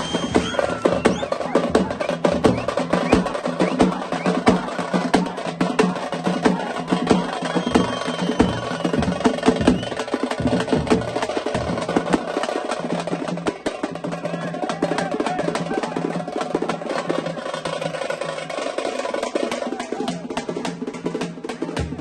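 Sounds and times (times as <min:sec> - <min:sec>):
frame drums beaten with sticks: 0:00.0 - 0:22.0.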